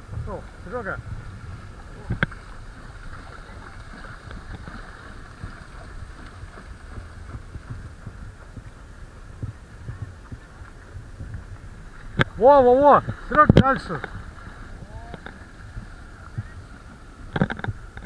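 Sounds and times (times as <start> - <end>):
water sloshing and splashing: 0.0 - 18.0
wind rumbling on microphone: 0.0 - 18.0.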